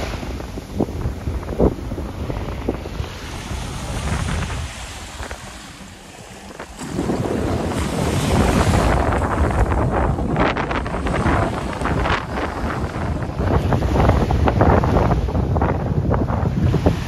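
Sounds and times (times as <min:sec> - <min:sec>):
small waves on sandy shore: 0:00.0 - 0:17.0
wind buffeting microphone: 0:00.0 - 0:17.0.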